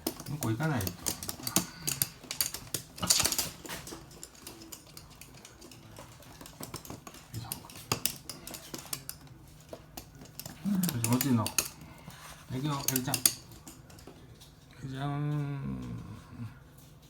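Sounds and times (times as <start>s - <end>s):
dog claws clicking on hard floor: 0.0s - 14.2s.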